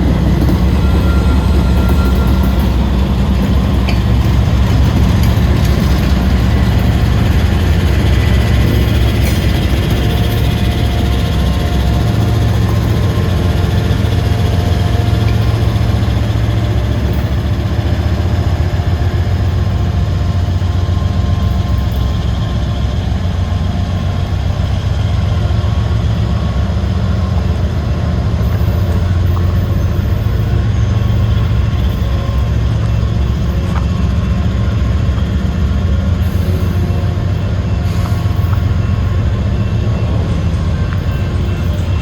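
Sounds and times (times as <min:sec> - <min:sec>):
freight train rumbling past: 0:00.0 - 0:42.0.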